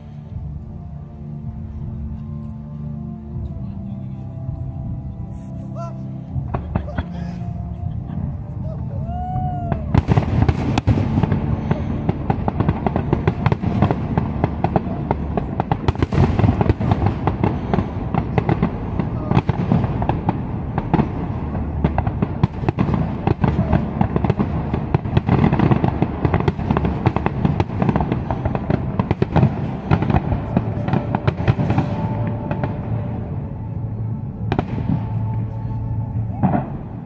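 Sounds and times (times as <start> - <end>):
fireworks crackling: 3.4 - 37.0
deep booms: 6.3 - 37.0.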